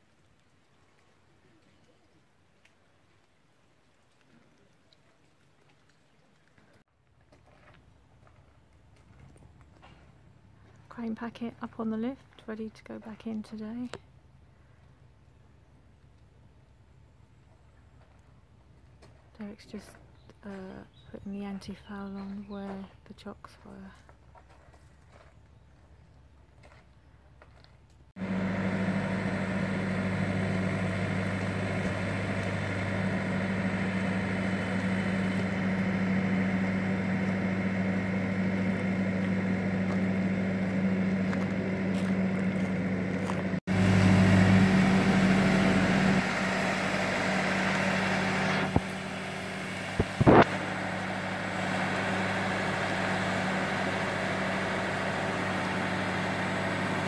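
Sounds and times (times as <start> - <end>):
engine low hum: 6.4 - 57.0.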